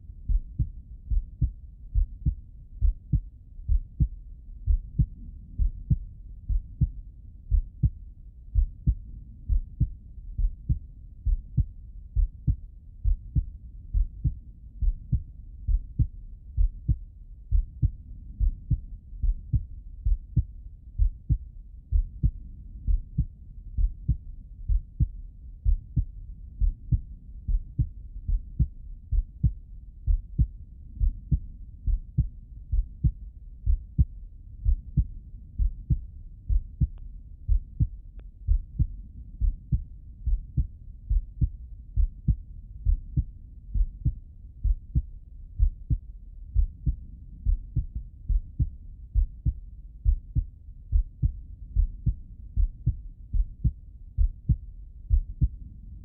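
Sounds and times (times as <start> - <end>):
heartbeat thuds through stethoscope: 0.2 - 55.7.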